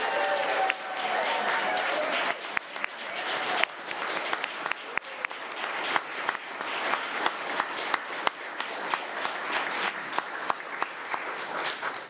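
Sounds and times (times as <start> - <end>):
audience applauding: 0.0 - 12.0
sharp individual claps: 0.0 - 12.0.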